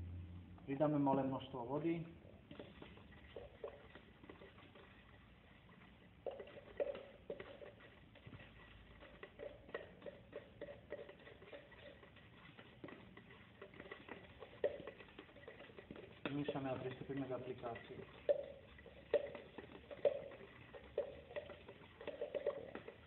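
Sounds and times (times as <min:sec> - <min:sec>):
stick scraping plastic tub: 0:01.9 - 0:23.0.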